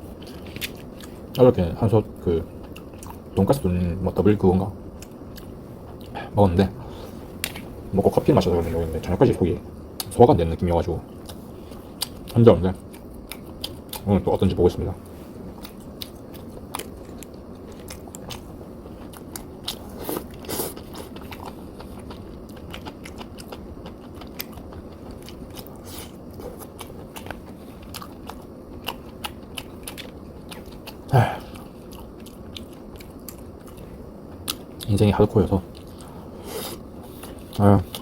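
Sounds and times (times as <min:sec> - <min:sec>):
person chewing food: 0:00.0 - 0:01.4, 0:02.5 - 0:03.4, 0:04.9 - 0:10.2, 0:11.1 - 0:14.1, 0:15.0 - 0:34.9, 0:35.7 - 0:38.0.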